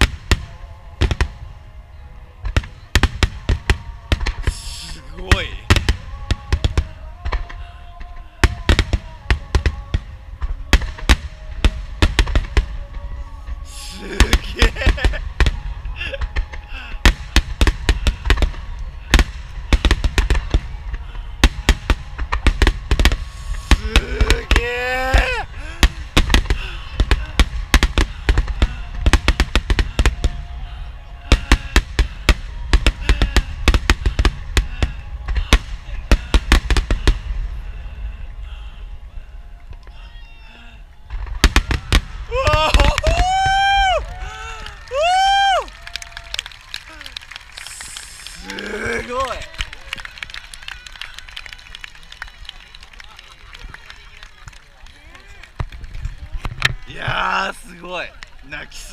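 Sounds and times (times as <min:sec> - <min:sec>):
fireworks booming and crackling: 0:00.0 - 0:40.1, 0:40.9 - 0:58.9.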